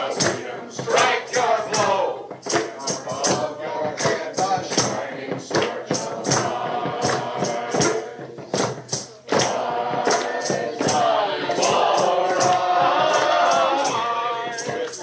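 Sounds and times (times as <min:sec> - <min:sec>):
choir singing: 0:00.0 - 0:15.0
sharp percussion strikes: 0:00.0 - 0:15.0.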